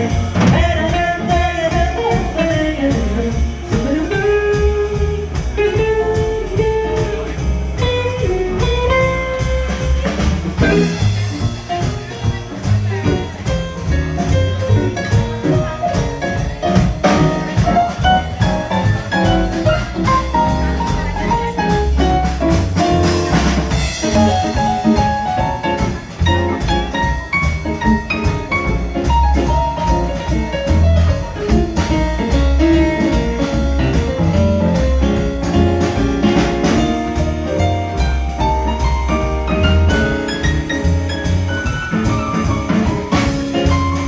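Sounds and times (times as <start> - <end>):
bass: 0.0 - 44.0
drum kit: 0.0 - 44.0
melodic jazz solo: 0.0 - 44.0.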